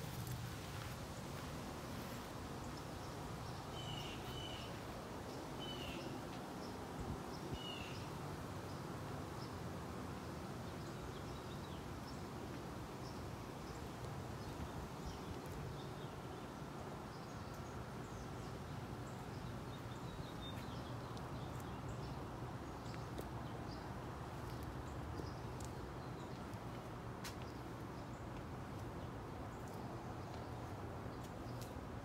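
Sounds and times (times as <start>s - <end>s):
steady low background noise: 0.0s - 32.0s.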